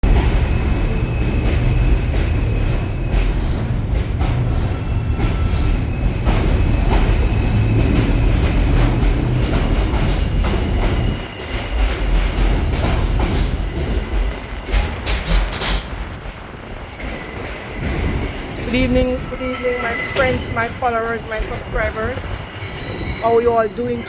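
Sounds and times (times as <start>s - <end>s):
wheel squeals: 0.0s - 16.1s, 17.0s - 24.0s
rail clicks: 0.0s - 24.0s
subway train rumble: 0.0s - 24.0s.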